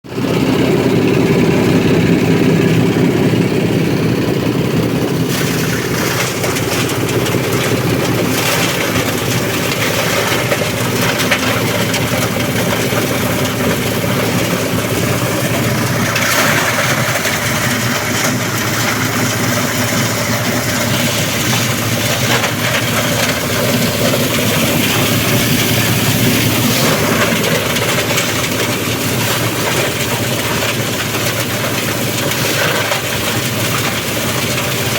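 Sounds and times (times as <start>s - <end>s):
shredding machine humming: 0.0s - 34.9s
leaves rushing through cutters: 0.1s - 34.9s.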